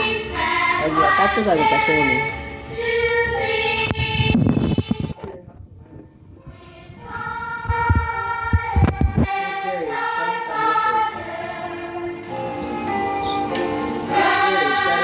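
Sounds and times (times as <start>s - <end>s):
high child-like singing voices: 0.0s - 5.2s, 6.4s - 13.4s, 14.1s - 15.0s.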